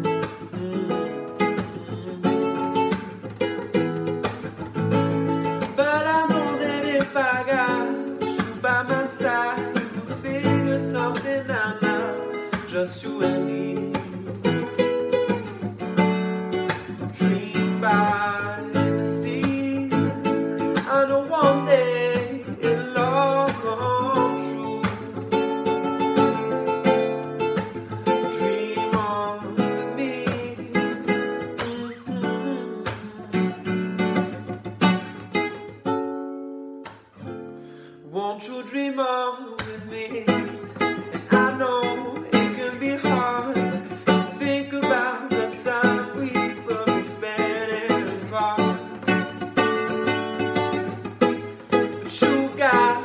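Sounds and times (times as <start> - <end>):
man singing: 0.0 - 3.3, 5.6 - 15.5, 16.7 - 34.4, 38.0 - 53.0
strummed nylon-string guitar: 0.0 - 53.0.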